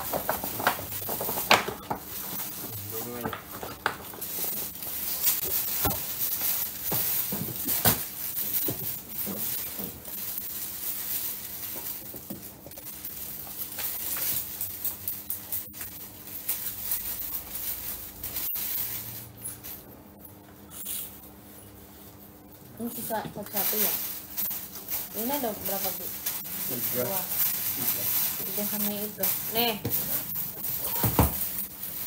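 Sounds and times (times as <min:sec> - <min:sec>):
paper and cardboard rustling: 0:00.0 - 0:19.5, 0:22.8 - 0:32.0.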